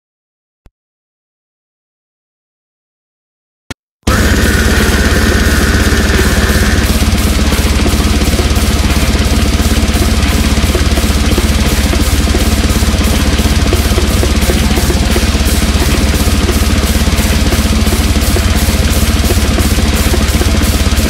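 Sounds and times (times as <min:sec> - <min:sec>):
death metal music: 0:04.1 - 0:21.0
fast kick drum pulses: 0:04.1 - 0:21.0.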